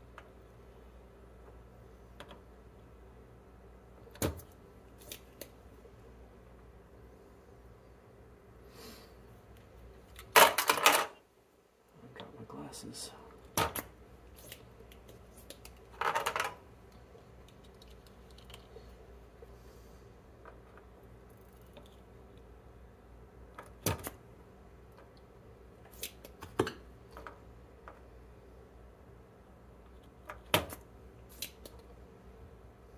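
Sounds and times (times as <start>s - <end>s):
faint low hum: 0.0s - 32.9s.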